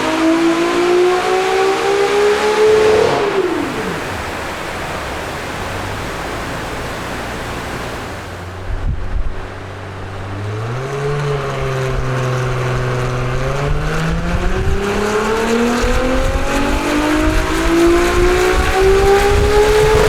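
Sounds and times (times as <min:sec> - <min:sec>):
car engine revving under load: 0:00.0 - 0:20.0.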